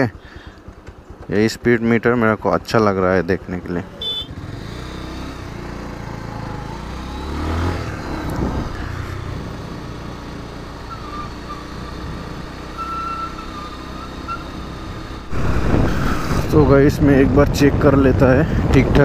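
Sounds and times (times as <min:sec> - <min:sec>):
motorcycle engine cruising: 0:00.0 - 0:19.0
road noise: 0:00.0 - 0:19.0.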